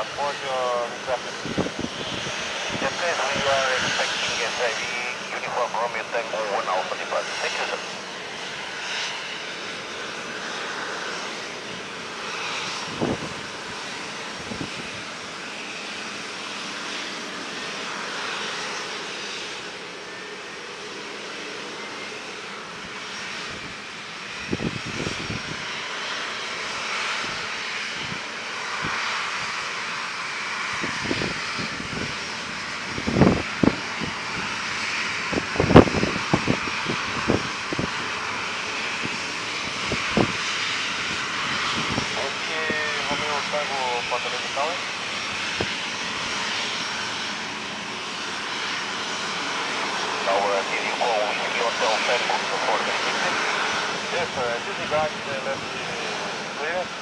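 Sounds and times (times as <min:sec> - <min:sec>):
jet engine whine and hiss: 0:00.0 - 0:57.0.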